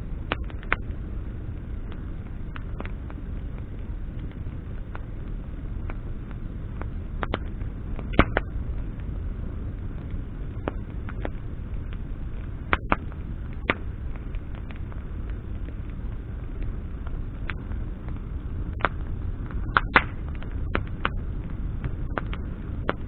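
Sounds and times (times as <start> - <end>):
campfire low rush: 0.0 - 23.0
fire crackles and pops: 0.0 - 23.0.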